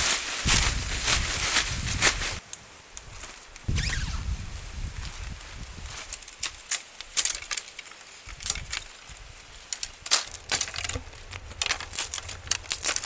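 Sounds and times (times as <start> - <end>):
twigs cracking and rustling: 0.0 - 13.0.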